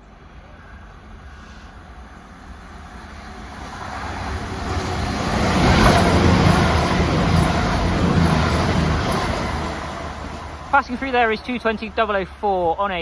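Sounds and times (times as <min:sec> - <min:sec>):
diesel train passing at speed: 0:00.0 - 0:13.0.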